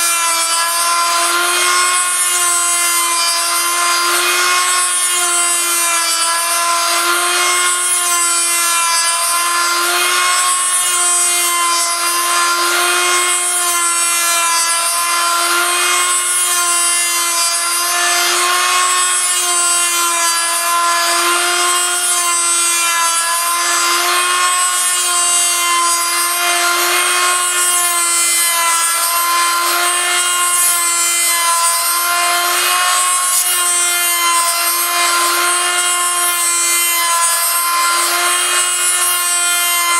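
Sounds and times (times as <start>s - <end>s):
bit rasping on wood: 0.0s - 39.9s
rotary tool whining: 0.0s - 39.9s.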